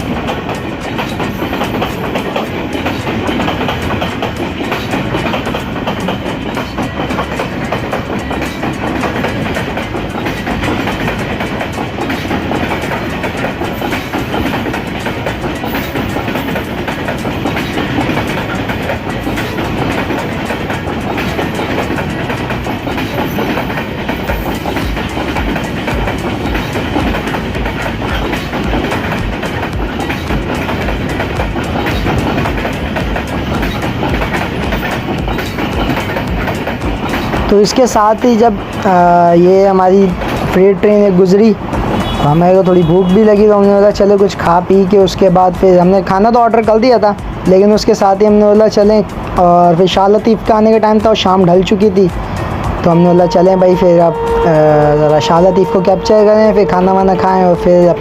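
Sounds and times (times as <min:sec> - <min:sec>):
train wheels clattering on rail joints: 0:00.0 - 0:58.0.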